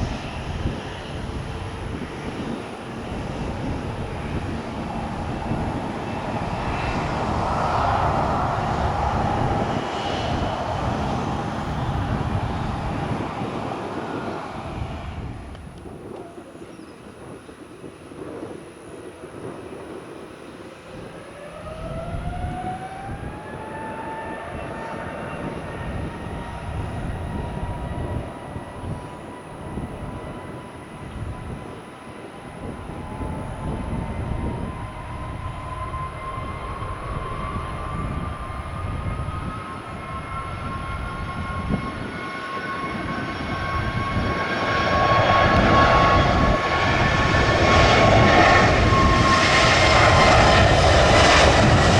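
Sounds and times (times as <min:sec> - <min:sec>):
jet engines spooling up: 0:00.0 - 0:17.4, 0:19.2 - 0:51.9.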